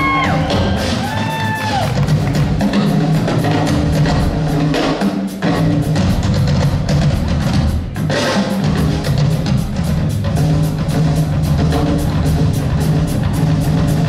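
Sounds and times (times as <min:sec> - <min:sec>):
rapid drum and cymbal hits: 0:00.0 - 0:14.0.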